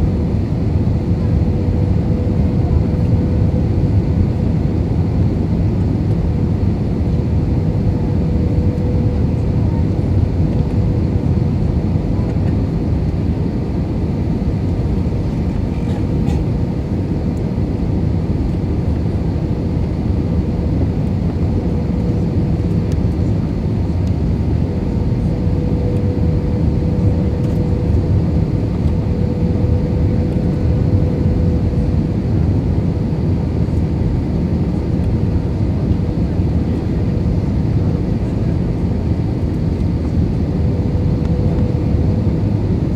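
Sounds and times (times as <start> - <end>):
airplane cabin engine rumble: 0.0 - 42.9.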